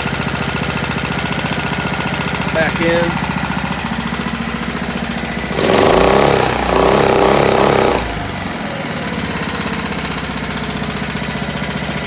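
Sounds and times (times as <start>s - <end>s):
outboard motor idling and revving: 0.0s - 12.0s.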